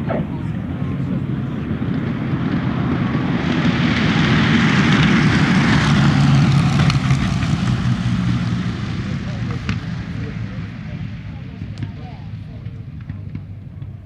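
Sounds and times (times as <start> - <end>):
aircraft passing overhead: 0.0 - 14.0.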